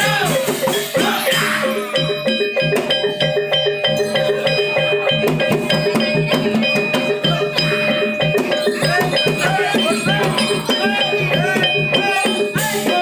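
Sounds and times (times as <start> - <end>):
metallophone and gong-chime notes: 0.0 - 13.0
quick drum pattern: 0.0 - 13.0
sliding high notes: 0.0 - 13.0.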